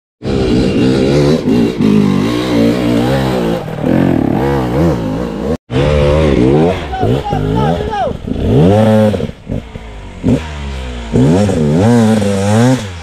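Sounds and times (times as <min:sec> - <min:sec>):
motorcycle engine revving: 0:00.2 - 0:13.0.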